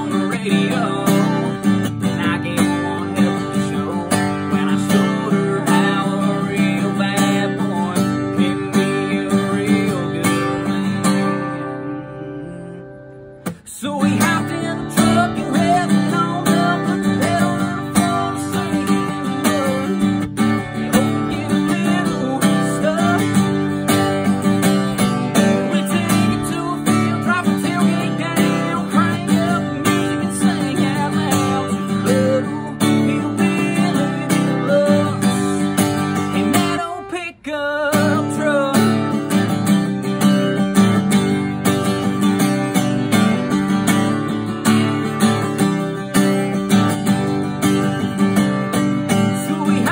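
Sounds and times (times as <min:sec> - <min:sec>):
acoustic guitar strumming: 0:00.0 - 0:49.9
man singing: 0:00.0 - 0:49.9.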